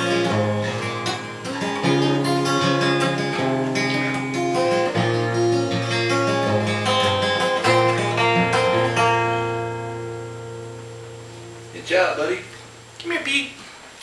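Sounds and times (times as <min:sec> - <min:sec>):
acoustic guitar strumming chords: 0:00.0 - 0:13.8.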